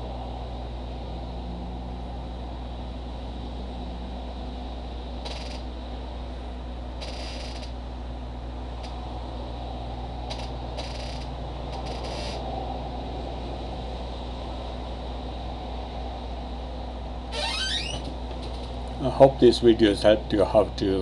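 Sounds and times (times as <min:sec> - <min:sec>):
low hum and hiss: 0:00.0 - 0:21.0.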